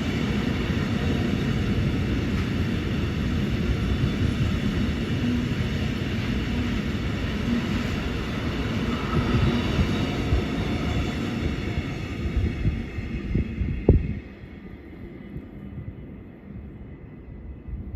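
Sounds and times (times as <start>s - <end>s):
freight train wheels rumbling: 0.0s - 17.9s.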